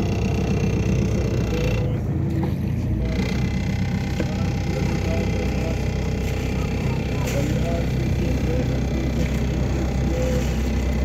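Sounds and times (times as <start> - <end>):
motorboat engine rumbling: 0.0 - 11.0.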